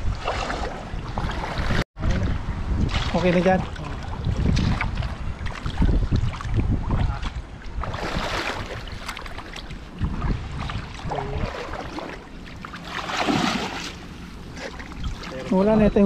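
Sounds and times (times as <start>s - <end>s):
water splashing and sloshing: 0.0s - 16.0s
wind buffeting microphone: 0.0s - 16.0s.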